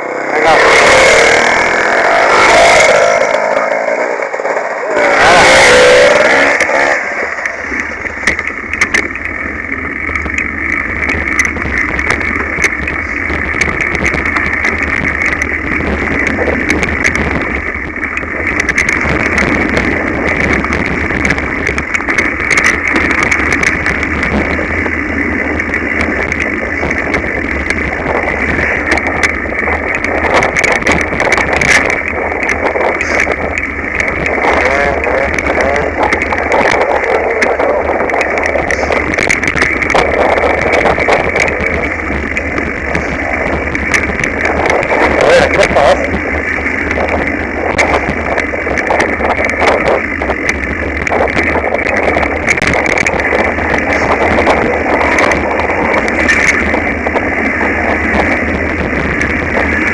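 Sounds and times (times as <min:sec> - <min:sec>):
bike tyres on dirt: 0:00.0 - 0:59.9
steady rushing noise: 0:00.0 - 0:59.9
bike knocks and clatter: 0:06.3 - 0:59.9.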